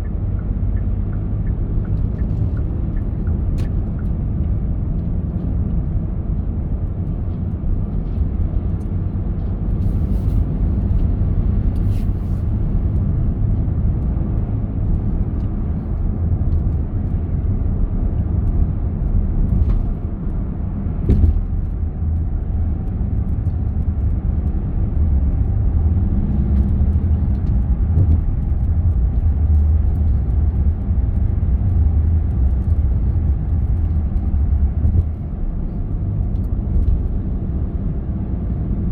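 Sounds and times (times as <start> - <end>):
car tyre and engine rumble: 0.0 - 38.9.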